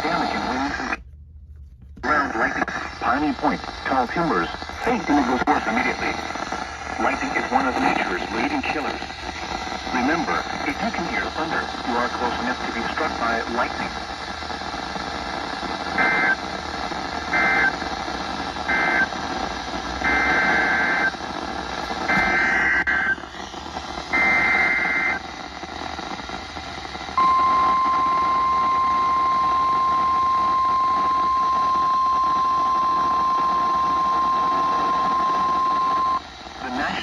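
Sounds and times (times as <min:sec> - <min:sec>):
radio hiss: 0:00.0 - 0:01.0, 0:02.0 - 0:37.0.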